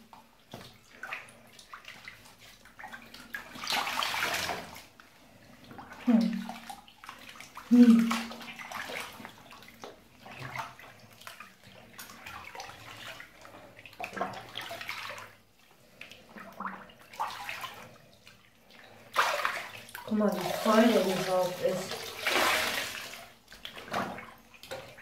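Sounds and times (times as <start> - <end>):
water sloshing in bathtub: 0.0 - 25.0.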